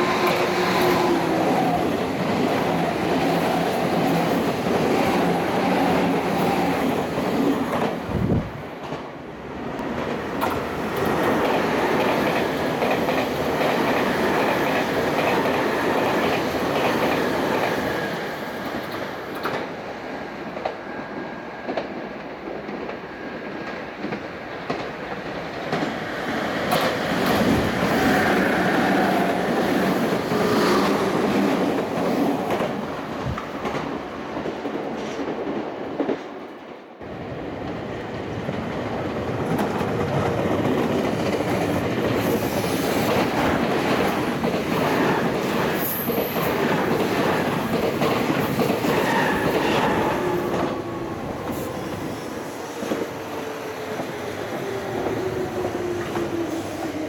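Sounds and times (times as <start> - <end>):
train wheels clacking on rails: 0.0 - 36.4, 37.5 - 57.0.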